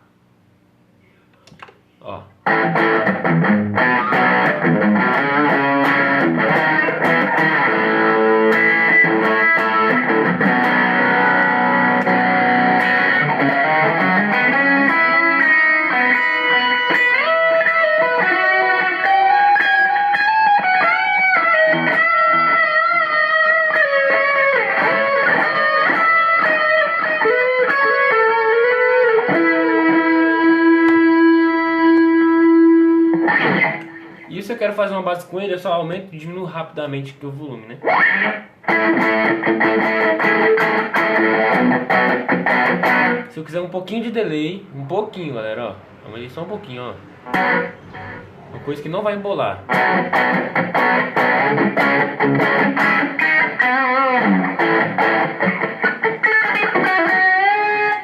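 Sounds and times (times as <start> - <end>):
distorted electric guitar: 2.4 - 34.4, 37.8 - 43.4, 47.0 - 58.0.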